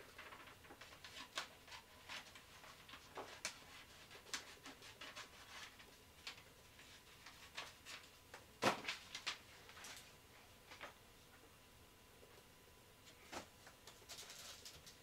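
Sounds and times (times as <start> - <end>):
faint small clicks and rustles: 0.1 - 11.4, 12.3 - 15.0.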